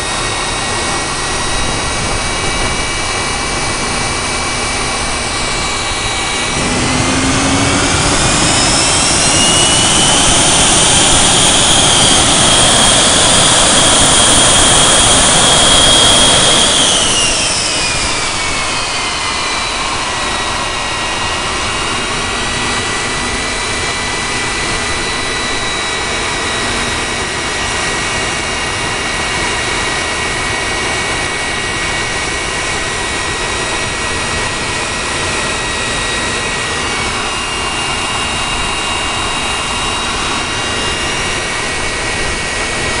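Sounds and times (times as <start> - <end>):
turbojet engine running: 0.0 - 43.0.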